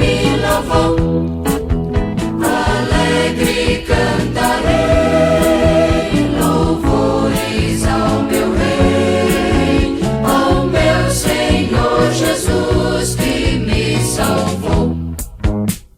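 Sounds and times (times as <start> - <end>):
vocal group singing in harmony: 0.0 - 1.2, 2.4 - 15.1
band with steady drum beat: 0.0 - 15.9.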